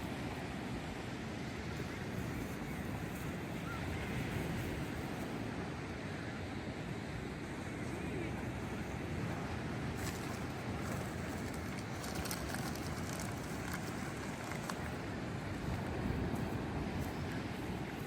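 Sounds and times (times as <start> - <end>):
surf on the beach: 0.0 - 18.0
wind rumbling on microphone: 0.0 - 18.0.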